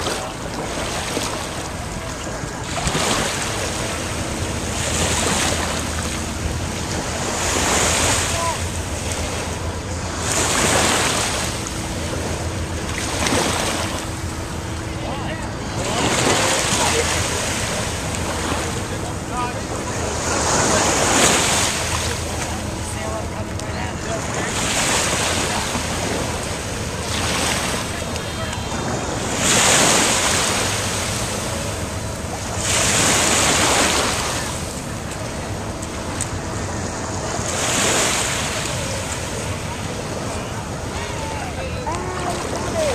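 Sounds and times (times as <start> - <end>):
faint steady hum: 0.0 - 42.9
waves breaking on a beach: 0.0 - 42.9.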